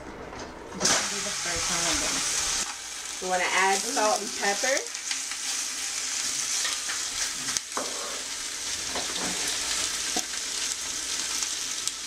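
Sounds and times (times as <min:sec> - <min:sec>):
pork sizzling in hot oil: 0:00.8 - 0:12.0.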